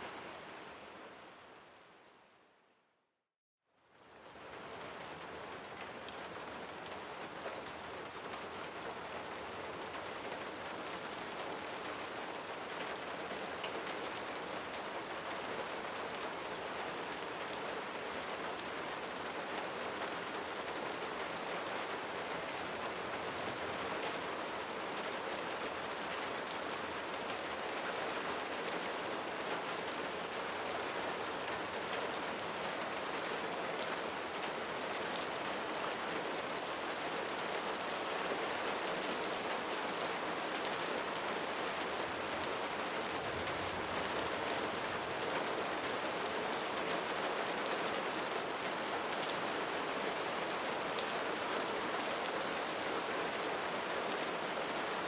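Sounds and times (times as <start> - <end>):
rain pattering on leaves: 3.9 - 55.0.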